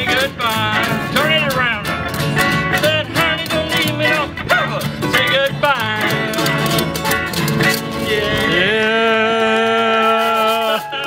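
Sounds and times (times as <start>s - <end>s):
string band playing blues: 0.0s - 11.0s
washboard beat: 0.0s - 11.0s.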